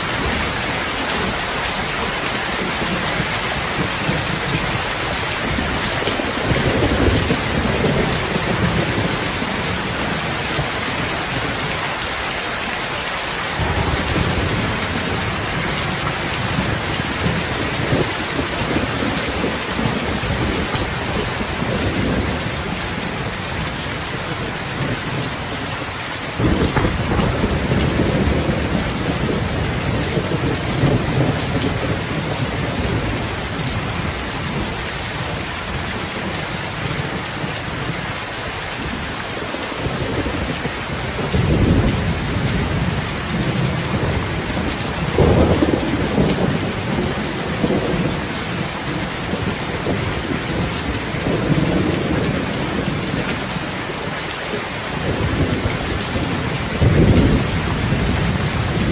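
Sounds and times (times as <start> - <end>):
rolling thunder rumbles: 0.0 - 11.8, 13.4 - 58.9
heavy rain falling: 0.0 - 58.9.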